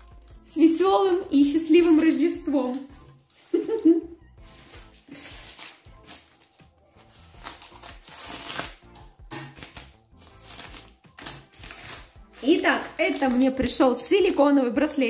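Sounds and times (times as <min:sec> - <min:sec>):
plastic packaging crinkling: 0:00.0 - 0:15.0
quiet background music: 0:00.0 - 0:15.0.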